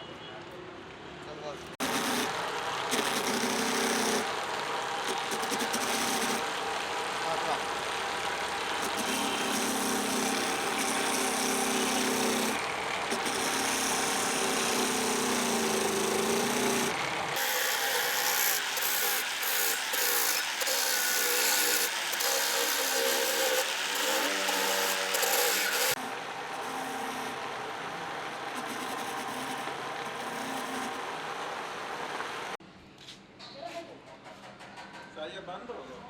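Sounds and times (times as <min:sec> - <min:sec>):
power tool grinding: 0:01.8 - 0:32.6.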